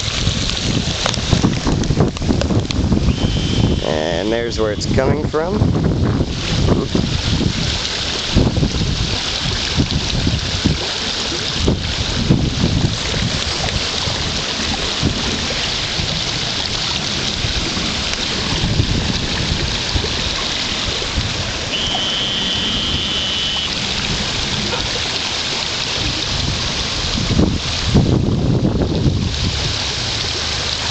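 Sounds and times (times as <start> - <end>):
floodwater rushing: 0.0 - 30.9
wind gusting on microphone: 0.0 - 30.9.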